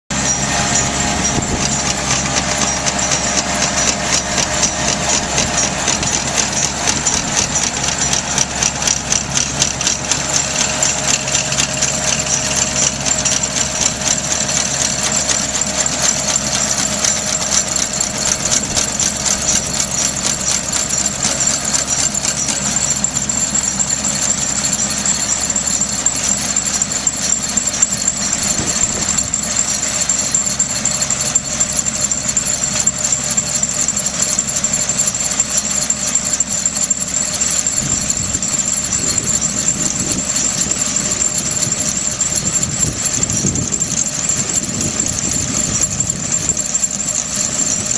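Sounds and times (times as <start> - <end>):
aerifier mechanical clatter: 0.1 - 47.9
tractor engine under load: 0.1 - 47.9.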